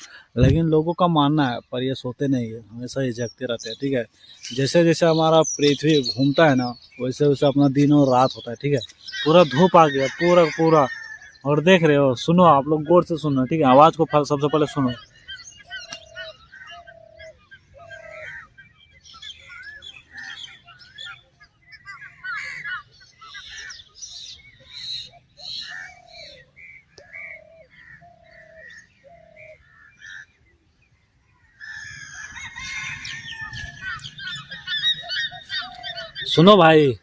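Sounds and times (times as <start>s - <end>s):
birds chirping and warbling: 0.0s - 37.0s
harsh bird calling: 0.0s - 37.0s.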